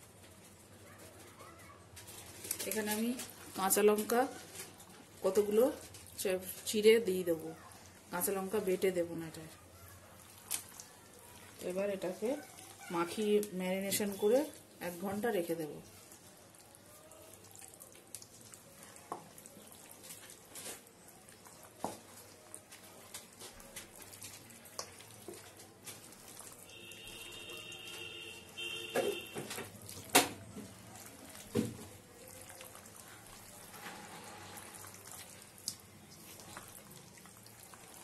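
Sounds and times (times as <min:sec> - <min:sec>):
wet squelching of kneading meat: 0:00.0 - 0:38.0.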